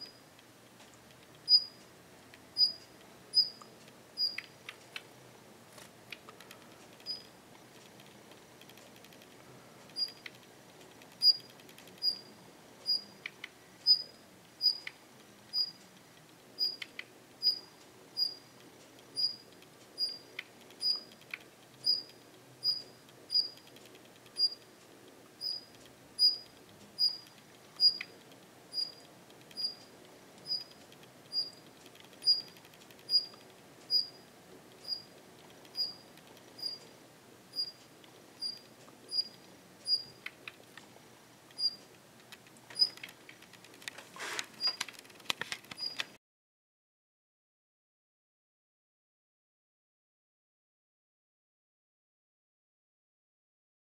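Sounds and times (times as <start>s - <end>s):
soft low bird ticks: 0.0s - 5.1s, 5.8s - 44.0s.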